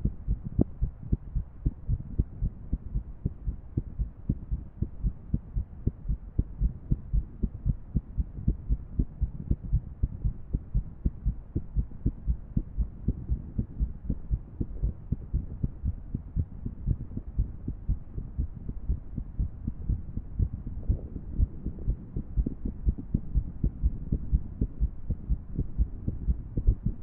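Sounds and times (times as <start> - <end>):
heartbeat thuds: 0.0 - 27.0
steady low background: 0.0 - 27.0.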